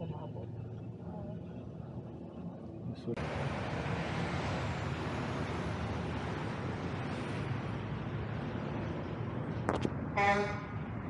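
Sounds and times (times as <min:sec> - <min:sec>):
street traffic rumble and hiss: 0:00.0 - 0:11.0.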